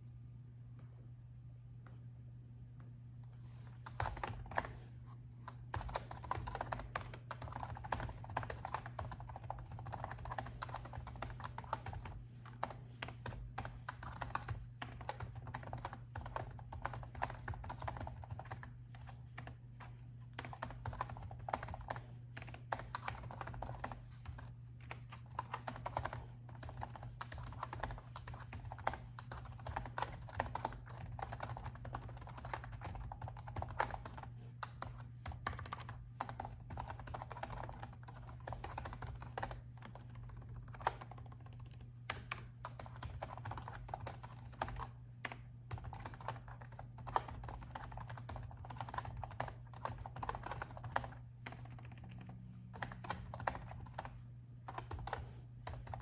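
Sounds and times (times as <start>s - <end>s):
steady low hum: 0.0s - 56.0s
typing on laptop keyboard: 3.8s - 4.9s, 5.5s - 56.0s.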